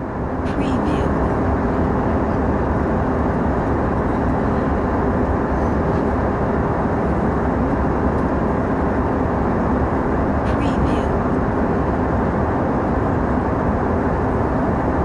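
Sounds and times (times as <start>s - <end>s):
airplane engine and airflow rumble: 0.0s - 15.0s.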